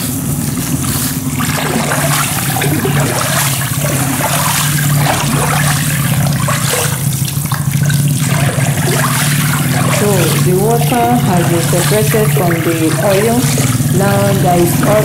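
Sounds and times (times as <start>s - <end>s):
steady low hum: 0.0s - 15.0s
water sloshing in a trough: 0.0s - 15.0s.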